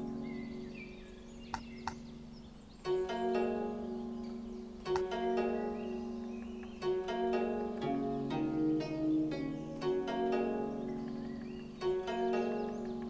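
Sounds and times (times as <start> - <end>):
held chords: 0.0 - 13.0
plucked strings music: 0.0 - 13.0.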